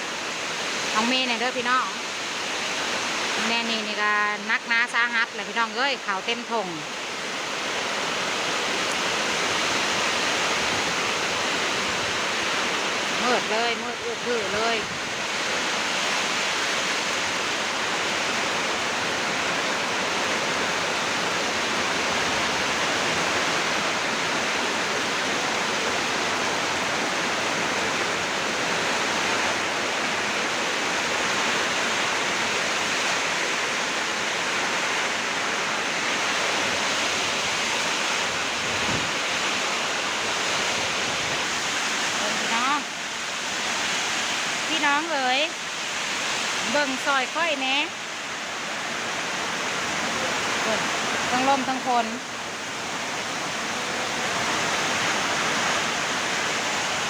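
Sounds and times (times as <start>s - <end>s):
heavy rainstorm: 0.0s - 57.0s
wind: 0.0s - 57.0s.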